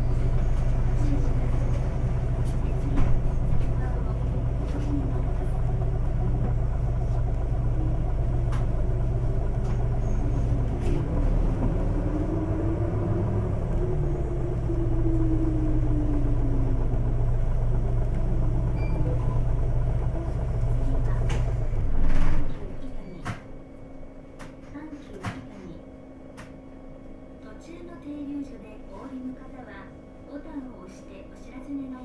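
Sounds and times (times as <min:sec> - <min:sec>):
bus diesel engine running: 0:00.0 - 0:32.0
bus whine: 0:00.0 - 0:32.0.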